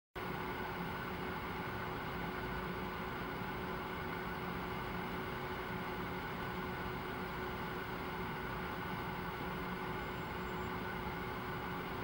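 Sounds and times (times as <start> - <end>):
faint steady hum: 0.2 - 12.0.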